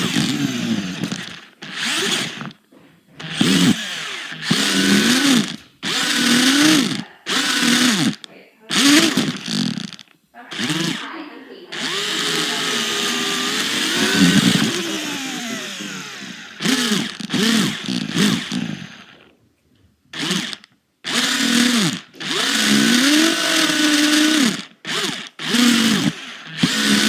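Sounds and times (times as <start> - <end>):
toy car motor whining: 0.0 - 2.6, 3.2 - 19.3, 20.2 - 27.0.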